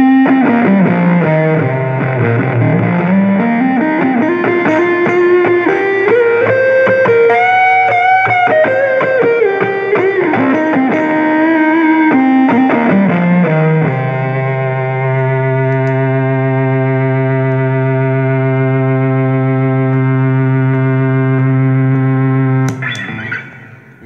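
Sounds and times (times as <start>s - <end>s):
overdriven electric guitar lead: 0.0s - 24.0s.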